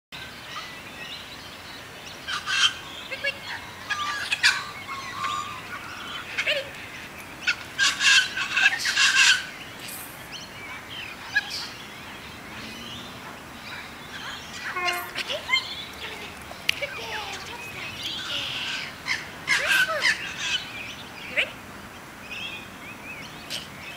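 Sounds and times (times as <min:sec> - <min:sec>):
steady outdoor hiss: 0:00.2 - 0:23.9
wild birds calling: 0:00.2 - 0:23.9.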